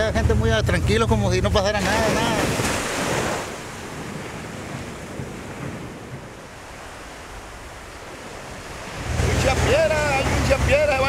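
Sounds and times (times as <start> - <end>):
ocean surf on sand beach: 0.0 - 11.0.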